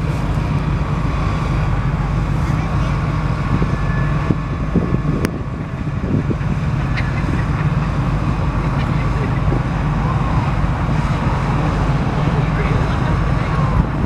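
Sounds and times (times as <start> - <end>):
background voices: 0.0 - 14.0
engine rumbling: 0.0 - 14.0.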